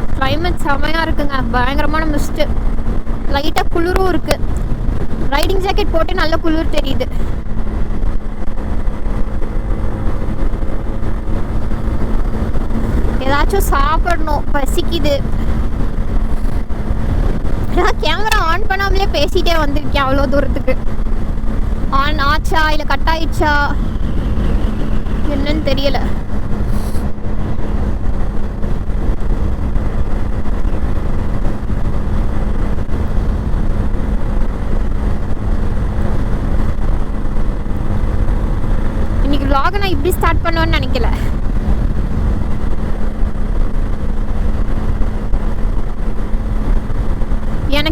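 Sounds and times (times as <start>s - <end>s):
motorcycle engine running: 0.0s - 47.9s
wind rumble on microphone: 0.0s - 47.9s.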